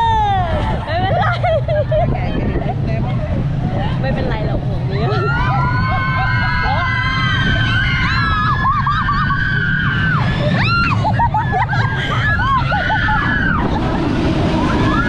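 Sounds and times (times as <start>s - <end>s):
roller coaster riders screaming: 0.0s - 2.7s, 4.8s - 15.0s
rumble of moving ride: 0.0s - 15.0s.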